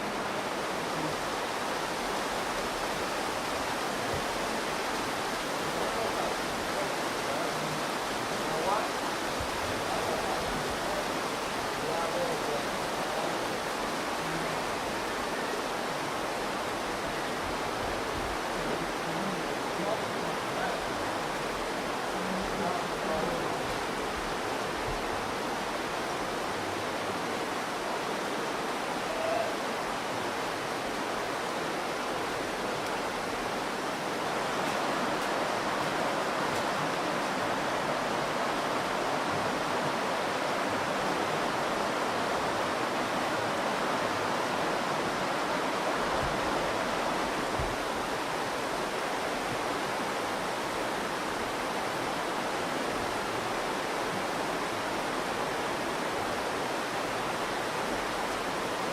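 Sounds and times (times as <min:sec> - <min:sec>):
river flowing over rocks: 0:00.0 - 0:58.9.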